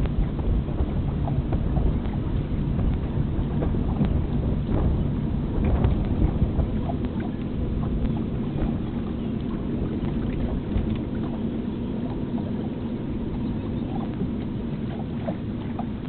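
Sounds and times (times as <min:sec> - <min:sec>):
water lapping against boat hull: 0:00.0 - 0:16.0
wind rumble on microphone: 0:00.0 - 0:16.0.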